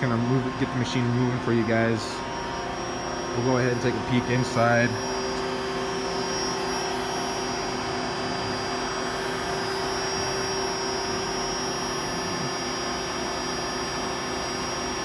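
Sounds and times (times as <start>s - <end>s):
machinery whirring and humming: 0.0s - 15.0s.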